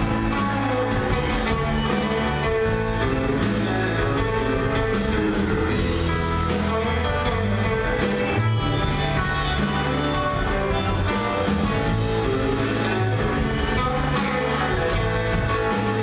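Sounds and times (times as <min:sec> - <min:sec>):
electric guitar: 0:00.0 - 0:16.0
live band playing: 0:00.0 - 0:16.0.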